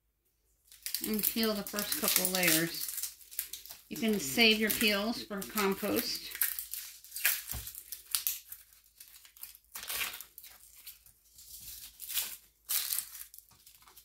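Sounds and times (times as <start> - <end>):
onion skin crinkling and tearing: 0.7 - 14.0.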